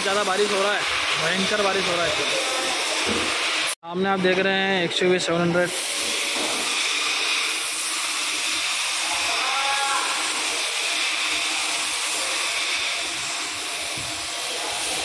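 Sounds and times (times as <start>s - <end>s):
heavy rain hissing: 0.0s - 3.8s, 5.6s - 15.0s.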